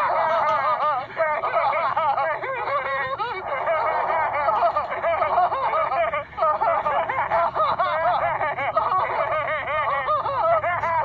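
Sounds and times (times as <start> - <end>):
people laughing and giggling: 0.0 - 11.0.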